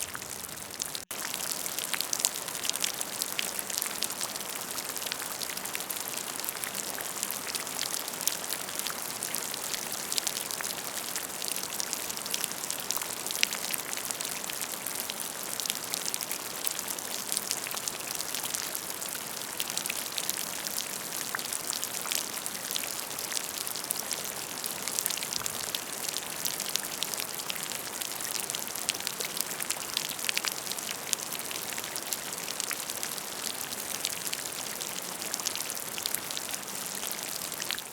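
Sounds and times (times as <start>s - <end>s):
rain pattering on a surface: 0.0s - 37.9s.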